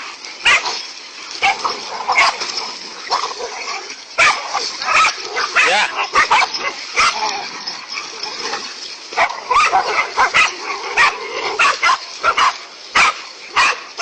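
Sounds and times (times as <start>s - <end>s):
dogs barking and yelping: 0.0s - 14.0s.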